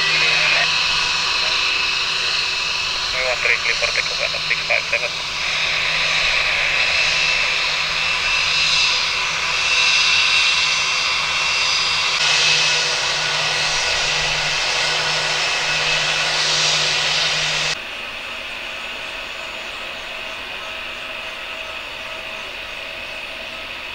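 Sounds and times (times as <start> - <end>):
jet engine whine: 0.0 - 23.9
steady hum: 0.0 - 23.9.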